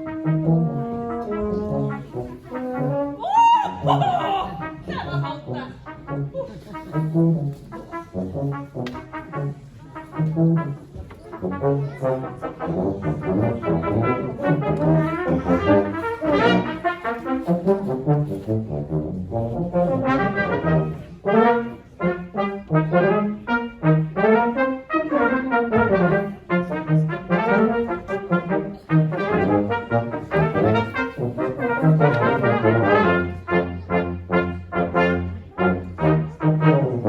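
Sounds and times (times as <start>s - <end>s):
brass quartet playing: 0.0s - 37.0s.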